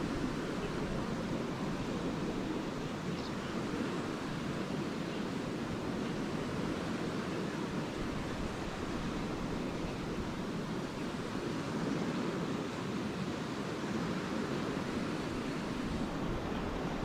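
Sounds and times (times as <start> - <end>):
waves washing onto a beach: 0.0 - 17.0.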